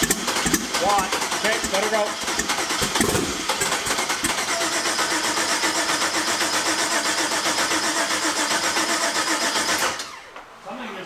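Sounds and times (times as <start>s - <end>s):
car engine starting: 0.0s - 10.4s.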